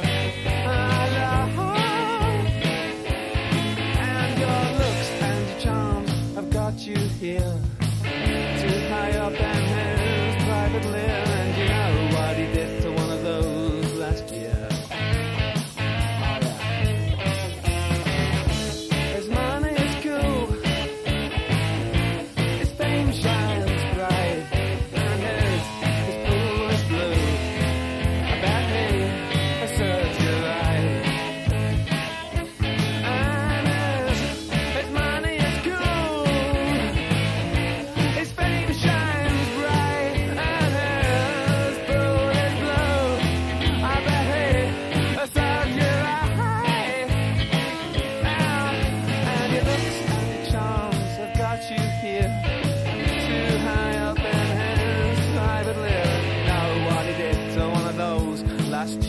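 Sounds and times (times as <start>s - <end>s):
bass guitar: 0.0s - 59.0s
rock guitar: 0.0s - 59.0s
steady drum beat: 0.0s - 59.0s.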